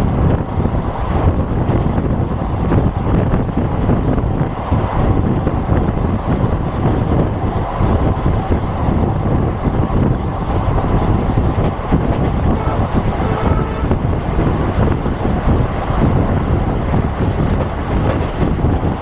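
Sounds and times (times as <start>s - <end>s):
train wheels rumbling on track: 0.0s - 19.0s
wind rushing: 0.0s - 19.0s.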